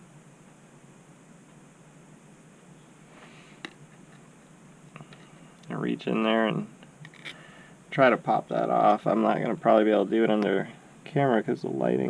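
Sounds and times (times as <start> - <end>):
faint hiss with low hum: 0.0 - 12.0.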